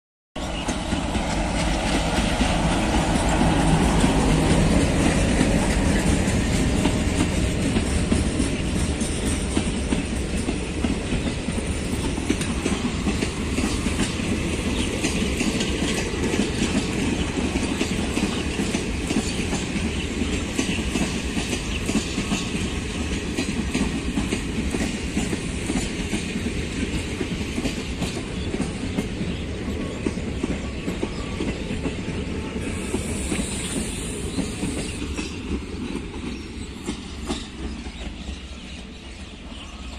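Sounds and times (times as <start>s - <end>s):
locomotive engines passing: 0.4s - 39.9s.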